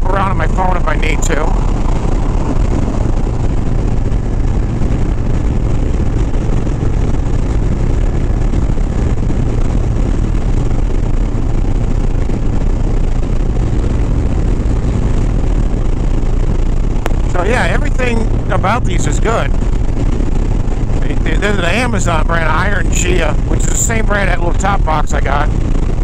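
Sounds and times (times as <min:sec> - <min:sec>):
motorcycle engine cruising: 0:00.0 - 0:26.0
wind and road noise: 0:00.0 - 0:26.0.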